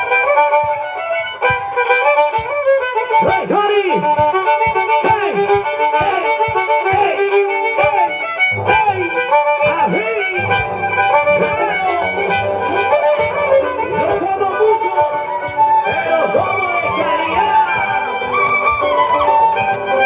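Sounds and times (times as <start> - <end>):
lively melody with gliding notes: 0.0 - 20.0
steady low beat: 0.0 - 20.0.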